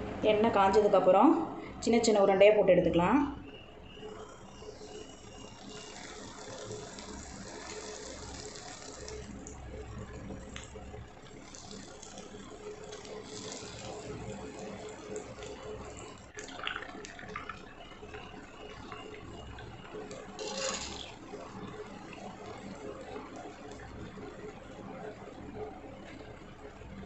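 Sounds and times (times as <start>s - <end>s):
oil sizzling and bubbling: 3.4s - 27.0s.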